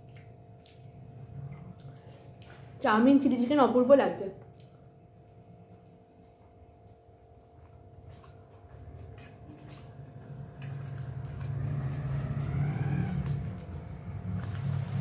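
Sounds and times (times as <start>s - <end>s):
person chewing: 0.0s - 2.8s, 4.5s - 15.0s.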